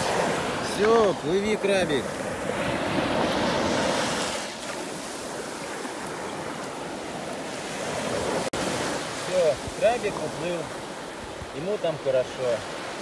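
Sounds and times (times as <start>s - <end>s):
small waves washing up a shore: 0.0s - 13.0s.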